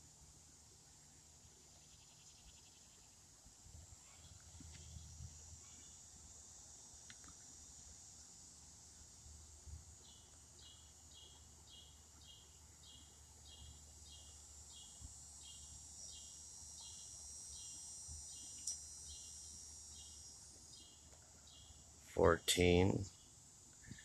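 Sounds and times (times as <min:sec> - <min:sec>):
insect chirps: 0:00.0 - 0:24.0
insect high-pitched hum: 0:00.0 - 0:24.0.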